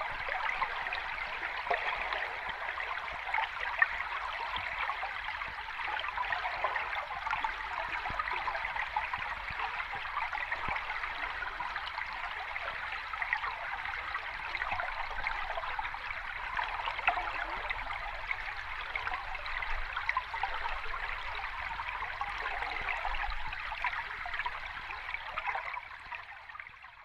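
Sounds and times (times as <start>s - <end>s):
water trickling and splashing: 0.0s - 27.0s.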